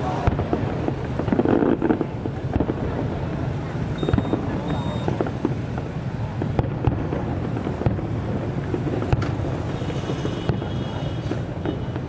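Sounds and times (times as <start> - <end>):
steady low rumble: 0.0 - 9.7
fireworks bursting with sharp bangs: 0.0 - 12.0.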